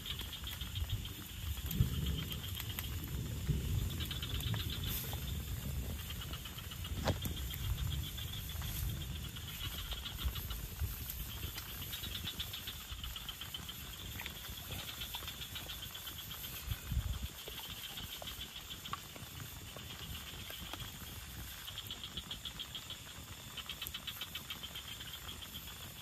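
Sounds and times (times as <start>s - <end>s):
insects chirping in trills: 0.0s - 26.0s.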